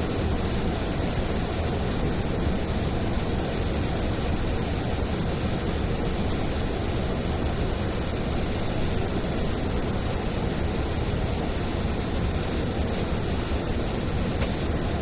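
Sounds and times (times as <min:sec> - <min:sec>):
aircraft engine noise: 0:00.0 - 0:15.0
airflow rush: 0:00.0 - 0:15.0.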